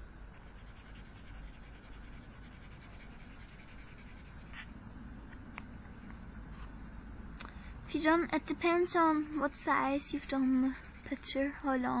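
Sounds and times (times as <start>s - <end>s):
pen scratching on paper: 0.0s - 7.1s, 7.9s - 12.0s.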